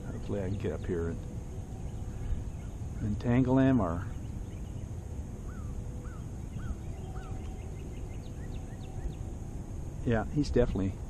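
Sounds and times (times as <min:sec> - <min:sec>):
distant birds calling: 0:00.0 - 0:11.0
wind: 0:00.0 - 0:11.0.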